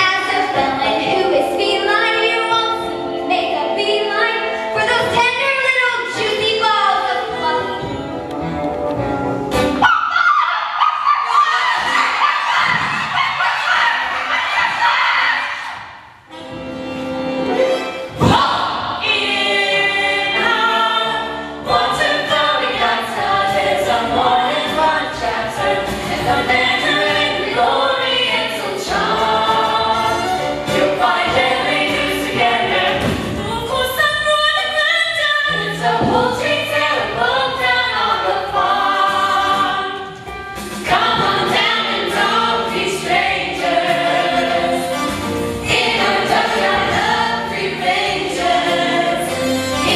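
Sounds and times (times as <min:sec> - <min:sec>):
chorus singing a show tune: 0:00.0 - 0:08.0, 0:10.2 - 0:16.4, 0:18.1 - 0:49.9.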